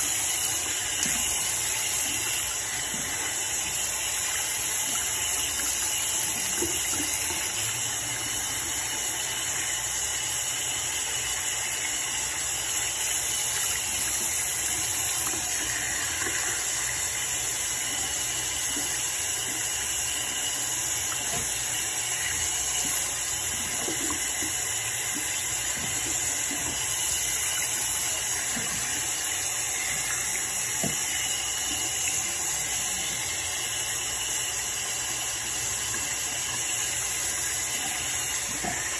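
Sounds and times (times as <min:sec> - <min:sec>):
faucet running into sink: 0:00.0 - 0:38.9.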